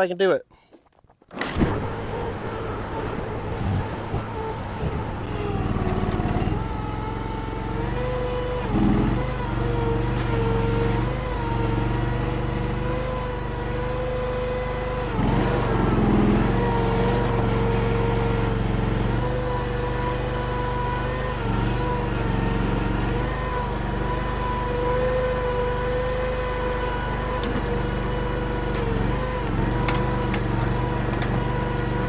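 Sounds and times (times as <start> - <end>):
gas engine running under load: 1.4 - 32.0.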